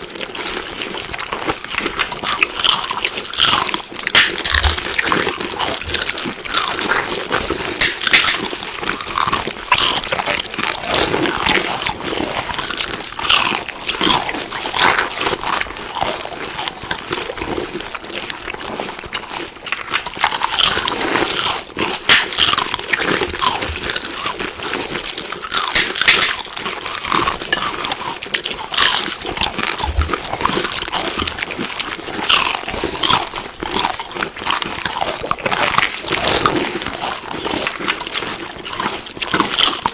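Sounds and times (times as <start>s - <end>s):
crunchy chewing of food: 0.0s - 39.9s.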